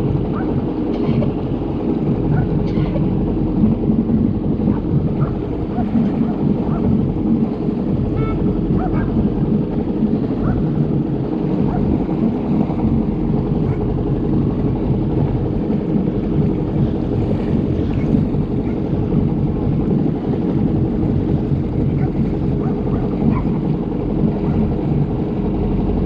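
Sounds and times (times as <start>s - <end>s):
jet ski engine running: 0.0s - 26.0s
water noise: 0.0s - 26.0s.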